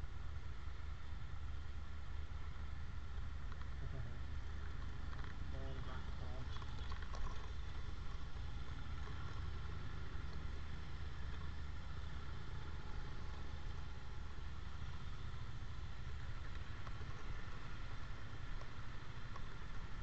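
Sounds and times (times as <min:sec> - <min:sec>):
motorcycle engines idling: 0:00.0 - 0:20.0.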